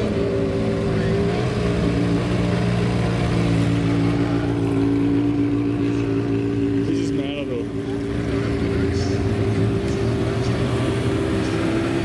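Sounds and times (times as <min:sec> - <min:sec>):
racing car engine running: 0:00.0 - 0:12.0.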